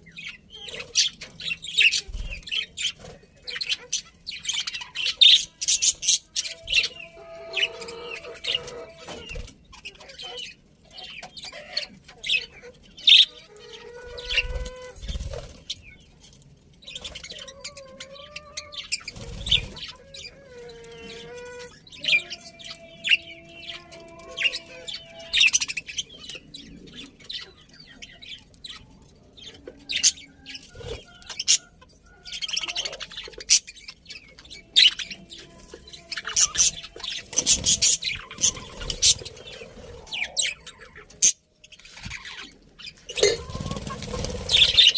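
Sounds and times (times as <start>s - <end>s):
budgerigars chirping: 0.0s - 16.0s, 16.8s - 44.9s.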